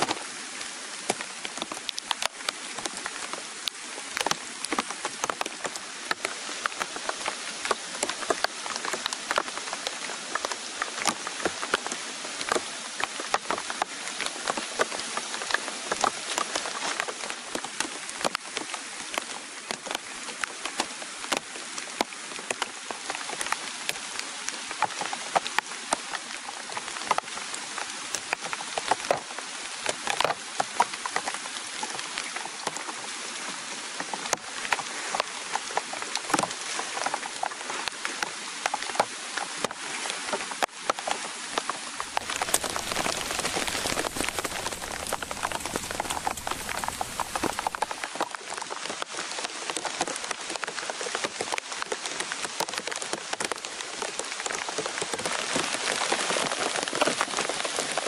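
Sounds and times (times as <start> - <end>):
heavy rain on plastic tarp: 0.0 - 58.0
rain drops striking: 0.0 - 58.0.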